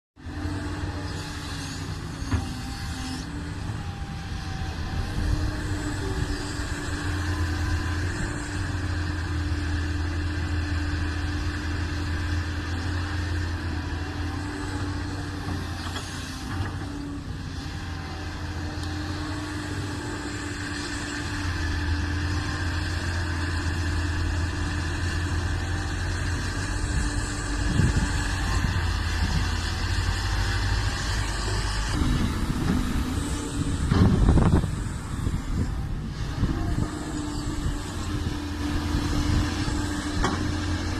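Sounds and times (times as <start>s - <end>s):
excavator diesel engine running: 0.2s - 40.9s.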